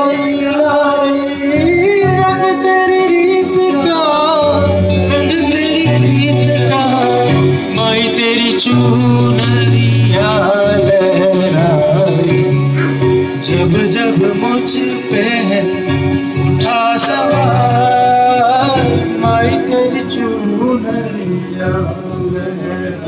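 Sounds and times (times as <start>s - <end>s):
instrumental accompaniment: 0.0s - 23.0s
person singing: 0.0s - 23.0s
steady bass line: 1.3s - 23.0s.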